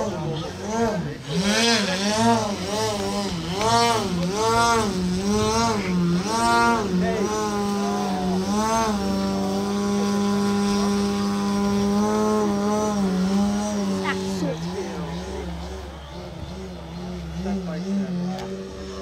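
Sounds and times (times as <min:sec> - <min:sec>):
model plane motor and propeller: 0:00.0 - 0:19.0.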